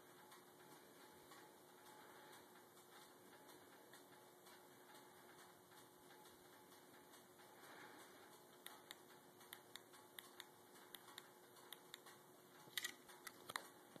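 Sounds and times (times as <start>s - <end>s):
faint room hiss: 0.0s - 14.0s
irregular sharp ticks: 0.0s - 14.0s
low steady hum: 0.0s - 14.0s.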